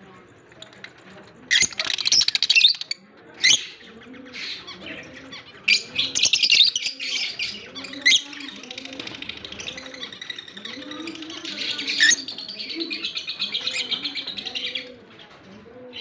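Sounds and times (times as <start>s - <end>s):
lovebirds chirping and squawking: 0.3s - 16.0s.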